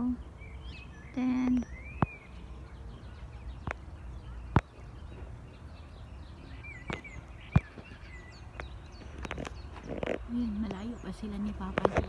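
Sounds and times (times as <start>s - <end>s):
birds whistling: 0.0s - 12.0s
low background hum: 0.0s - 12.0s.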